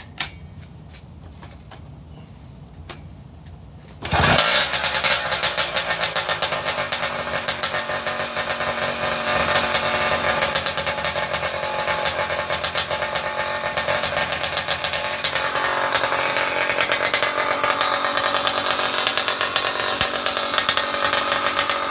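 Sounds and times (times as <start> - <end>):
two-stroke engine running: 4.0 - 21.9.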